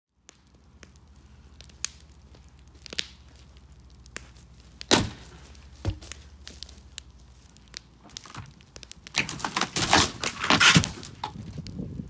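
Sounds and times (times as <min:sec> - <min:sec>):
low steady hum: 0:00.2 - 0:12.0
light knocks and cracks: 0:01.6 - 0:11.8.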